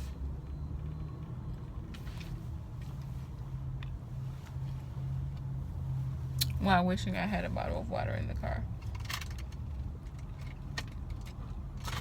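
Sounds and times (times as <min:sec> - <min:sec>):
car idling hum: 0:00.0 - 0:12.0.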